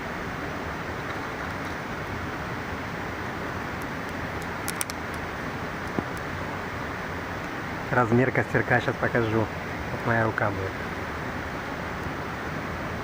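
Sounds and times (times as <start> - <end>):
campfire crackling: 0.0 - 13.0
mountain river rushing: 0.0 - 13.0.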